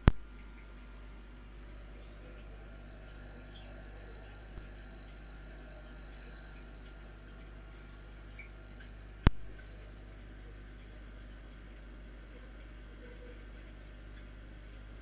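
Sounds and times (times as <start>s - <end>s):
faint bubbling water: 0.0s - 15.0s
low hum of aquarium equipment: 0.0s - 15.0s.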